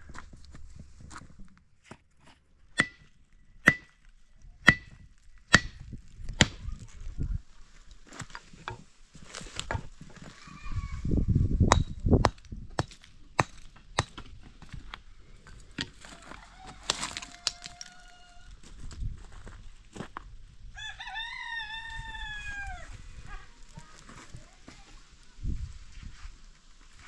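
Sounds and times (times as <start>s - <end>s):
low rumbling shuffle: 0.0s - 2.7s, 4.2s - 17.4s, 18.5s - 20.8s, 21.8s - 27.0s.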